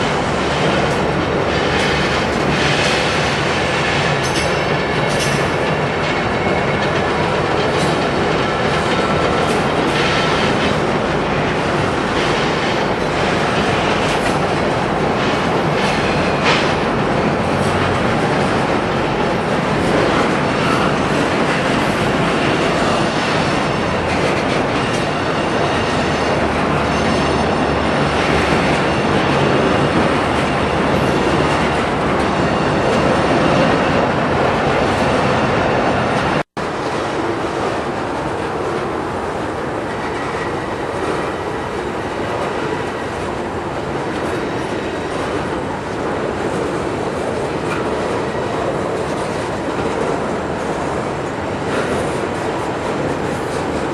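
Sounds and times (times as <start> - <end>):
train rolling on rails: 0.0 - 53.9.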